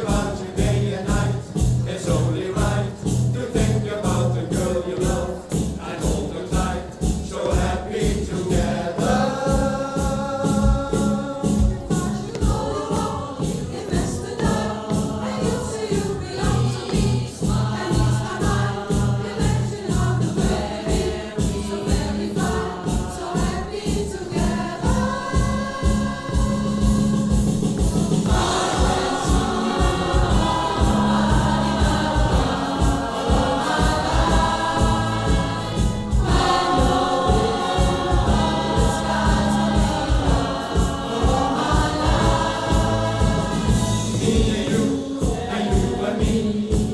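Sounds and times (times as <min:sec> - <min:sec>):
choral singing over a beat: 0:00.0 - 0:46.9.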